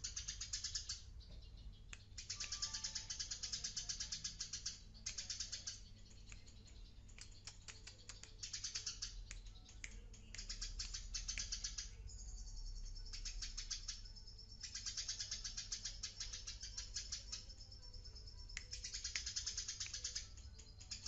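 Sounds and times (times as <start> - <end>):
sparrow chirping: 0.0 - 21.0.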